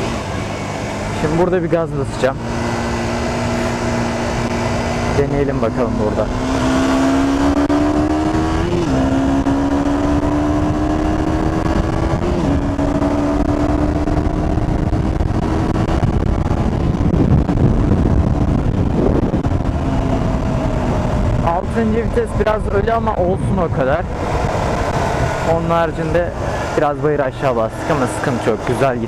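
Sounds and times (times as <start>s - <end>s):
motorcycle engine accelerating: 0.0s - 29.0s
wind rushing over microphone: 0.0s - 29.0s.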